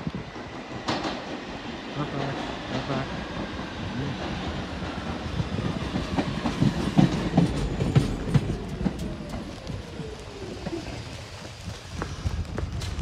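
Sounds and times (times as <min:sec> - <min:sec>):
subway train rumbling on rails: 0:00.0 - 0:13.0.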